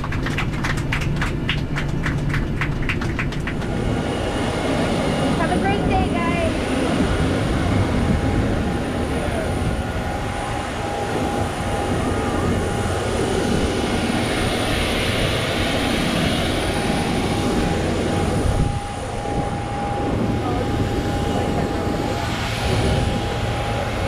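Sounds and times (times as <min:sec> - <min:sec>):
aircraft engine rushing hum: 0:00.0 - 0:24.0
thin steady whine: 0:02.3 - 0:24.0.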